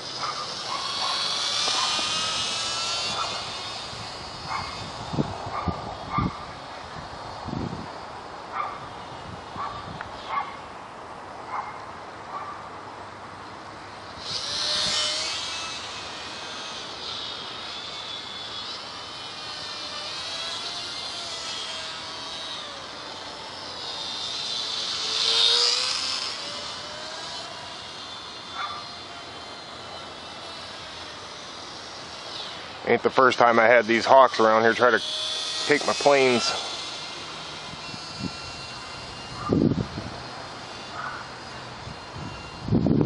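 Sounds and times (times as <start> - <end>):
model plane motor whining: 0.0 - 10.7, 13.4 - 43.0.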